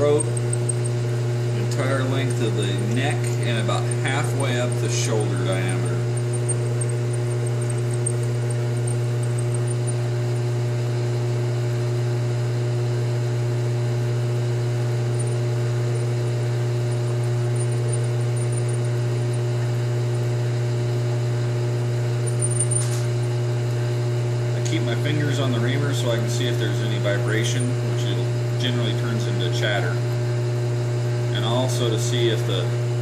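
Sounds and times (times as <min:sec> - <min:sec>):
metal lathe humming: 0:00.0 - 0:33.0.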